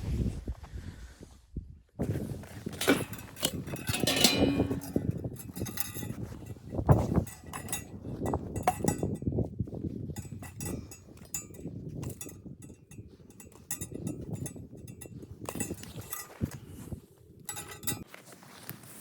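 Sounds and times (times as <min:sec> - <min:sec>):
light knocks and clinks: 0:02.7 - 0:18.2.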